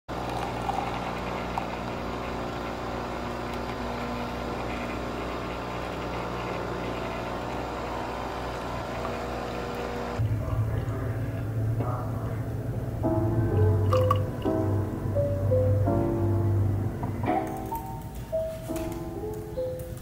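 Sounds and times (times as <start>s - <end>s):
coffee machine humming: 0.1s - 18.1s.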